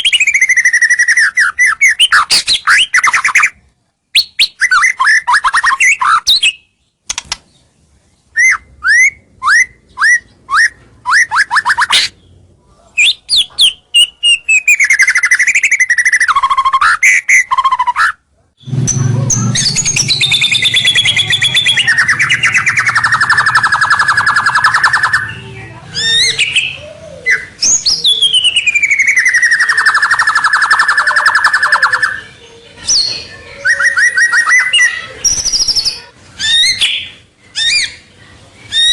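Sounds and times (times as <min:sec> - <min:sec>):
bird singing whistled phrases: 0:00.0 - 0:06.8, 0:08.3 - 0:12.2, 0:12.8 - 0:32.3, 0:32.9 - 0:38.1.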